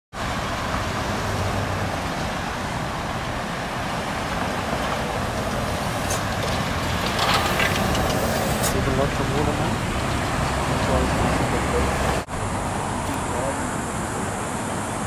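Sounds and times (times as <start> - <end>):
road traffic rumble: 0.1 - 15.0.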